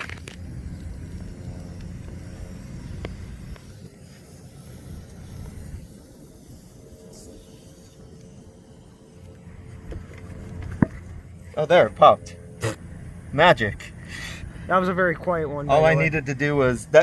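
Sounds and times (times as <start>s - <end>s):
air hissing from tire: 0.0s - 17.0s
low steady rumble: 0.0s - 17.0s.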